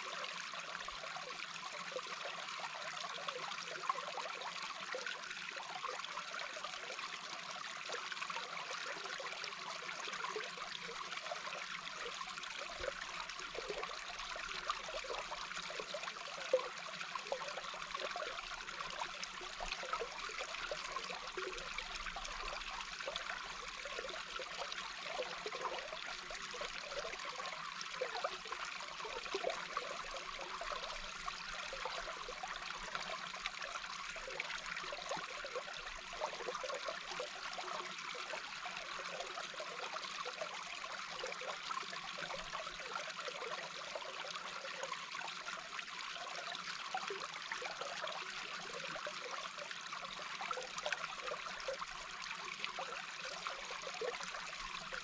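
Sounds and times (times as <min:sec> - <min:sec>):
brook flowing heard underwater: 0:00.0 - 0:55.0.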